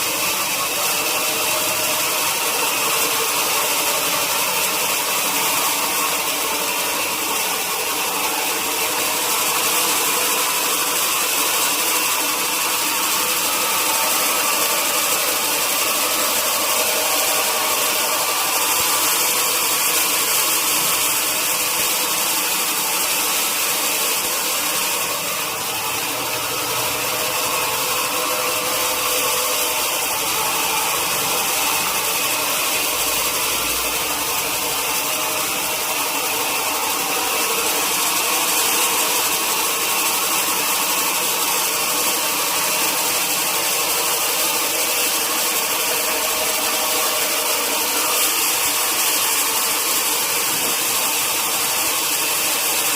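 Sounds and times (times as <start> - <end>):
sawmill machinery running: 0.0 - 52.9
steady machine hums: 0.0 - 52.9.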